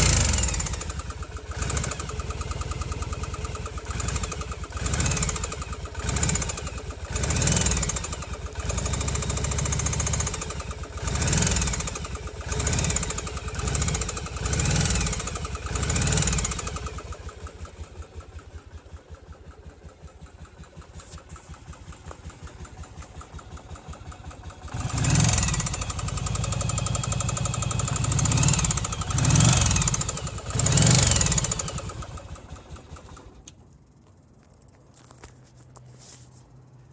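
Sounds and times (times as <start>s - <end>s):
engine knocking: 0.0s - 33.4s
motorcycle engine revving: 0.0s - 33.5s.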